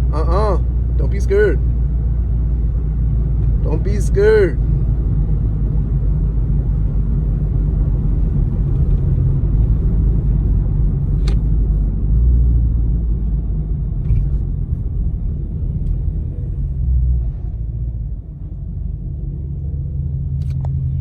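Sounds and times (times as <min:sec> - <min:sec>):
car engine and road noise drone: 0:00.0 - 0:21.0.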